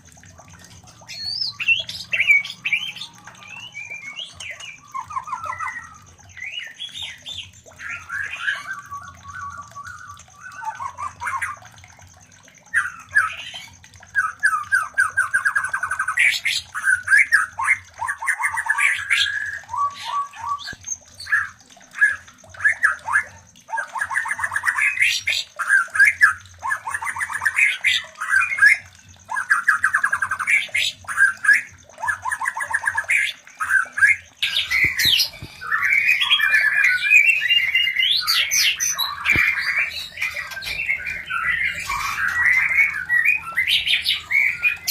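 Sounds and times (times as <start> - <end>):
birds giving harsh rattling trills: 0.0 - 44.9.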